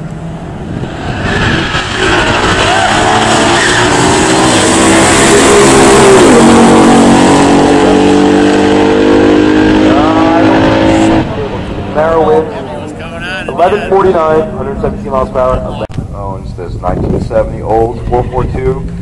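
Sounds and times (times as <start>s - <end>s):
cars accelerating at full throttle: 0.0s - 15.9s.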